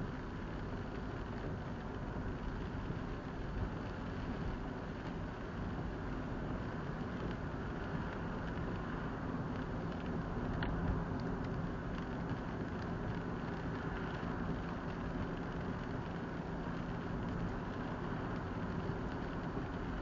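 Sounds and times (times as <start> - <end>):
low engine hum: 0.0 - 20.0
road rumble: 0.0 - 20.0.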